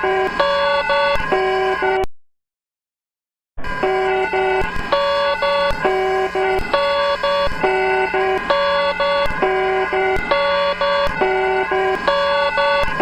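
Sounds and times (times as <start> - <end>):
alternating alarm beeps: 0.0 - 2.1, 3.8 - 13.0.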